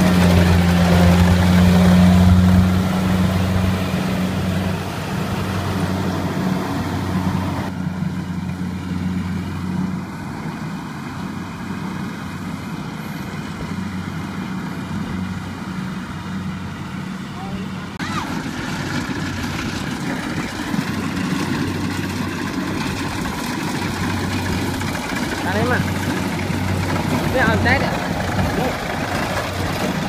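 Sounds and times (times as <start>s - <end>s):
combine harvester engine hum: 0.0s - 30.0s.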